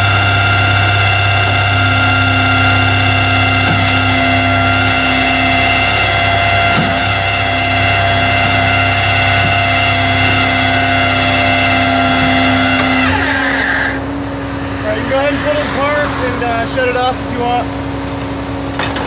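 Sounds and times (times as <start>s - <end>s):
hydraulic winch whining: 0.0s - 19.0s
truck engine: 0.0s - 19.0s.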